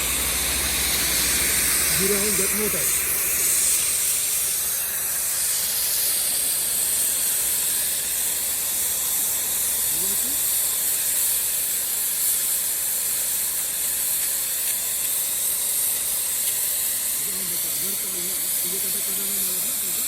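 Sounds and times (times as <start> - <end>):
compressed air hissing through pipe: 0.0 - 20.0.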